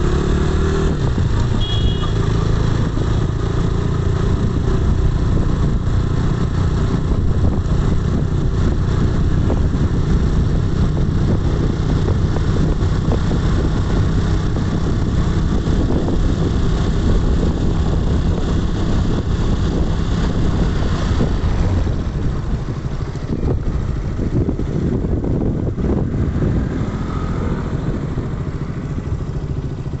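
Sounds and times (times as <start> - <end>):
motorbike engine running: 0.0 - 30.0
wind and road noise: 0.0 - 30.0.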